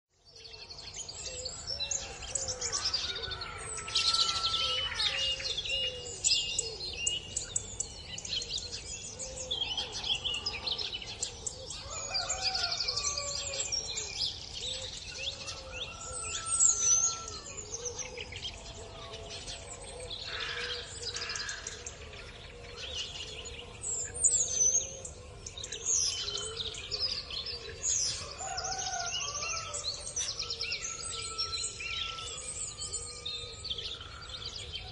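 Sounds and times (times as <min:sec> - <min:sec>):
songbirds singing and chirping: 0:00.0 - 0:34.9
lower repeated bird calls: 0:00.2 - 0:34.9.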